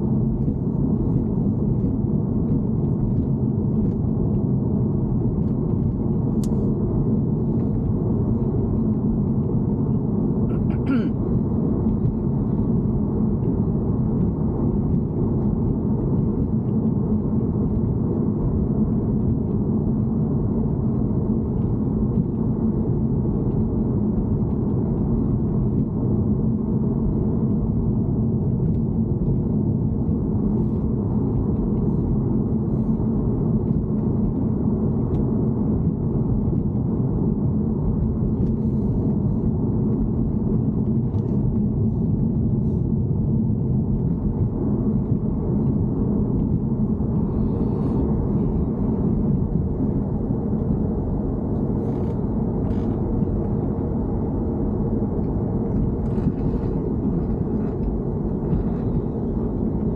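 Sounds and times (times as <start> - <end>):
car interior rumble: 0.0 - 59.9.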